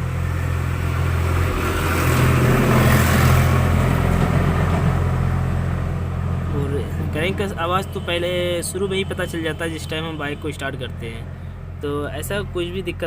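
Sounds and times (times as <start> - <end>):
low engine hum: 0.0 - 13.0
vehicle passing: 0.0 - 13.0.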